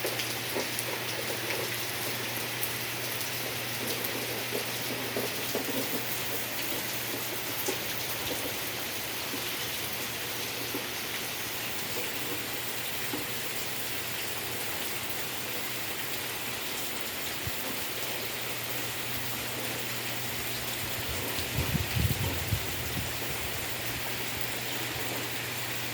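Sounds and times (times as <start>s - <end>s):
heavy rain hissing: 0.0s - 25.9s.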